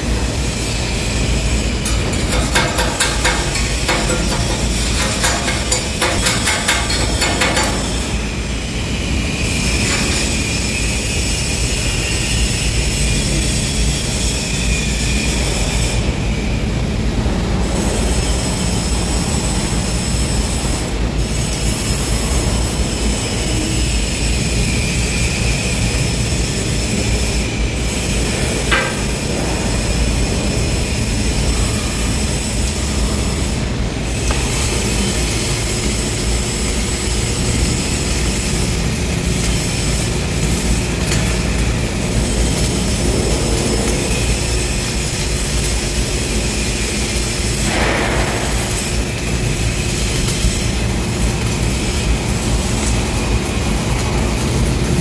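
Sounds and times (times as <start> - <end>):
arc welding: 0.0 - 55.0
dense workshop rumble: 0.0 - 55.0.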